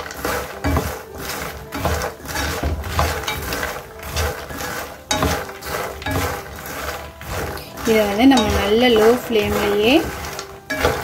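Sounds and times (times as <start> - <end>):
seeds rattling in a pan: 0.0 - 11.0.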